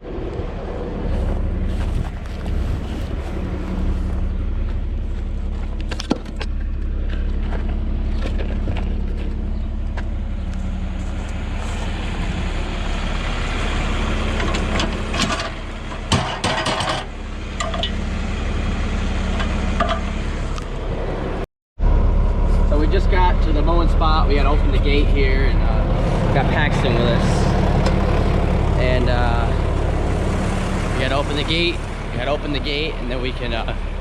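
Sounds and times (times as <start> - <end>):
tractor diesel engine rumbling: 0.0 - 34.0.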